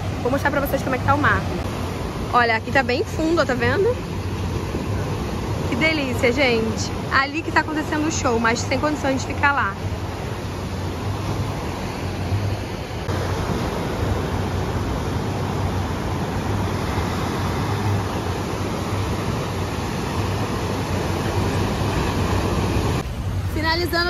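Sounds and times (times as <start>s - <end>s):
ocean surf breaking on beach: 0.0s - 24.0s.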